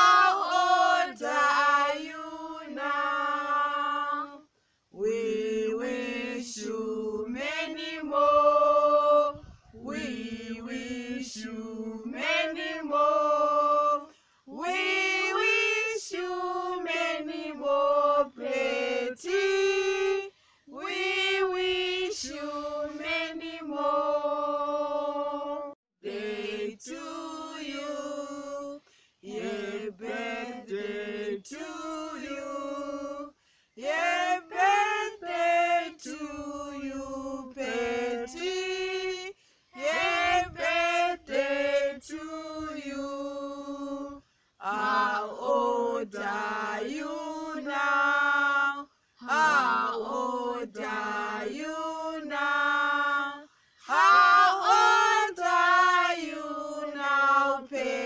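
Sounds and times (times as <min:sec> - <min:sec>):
group singing unaccompanied: 0:00.0 - 0:58.0.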